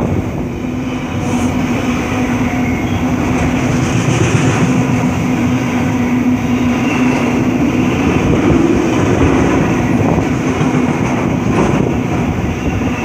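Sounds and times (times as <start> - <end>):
low hum: 0.0 - 11.5
freight train wheels rumbling: 0.0 - 13.0.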